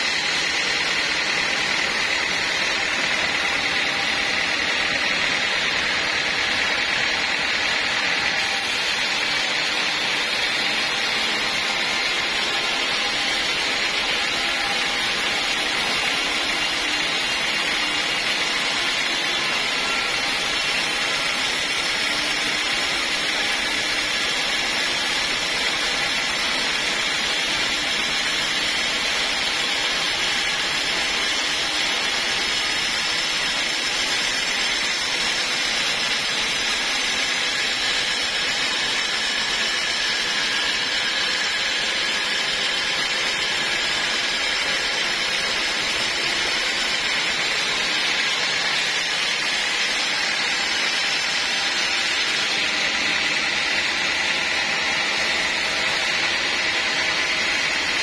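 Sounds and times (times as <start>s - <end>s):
band sawmill whirring: 0.0s - 58.0s.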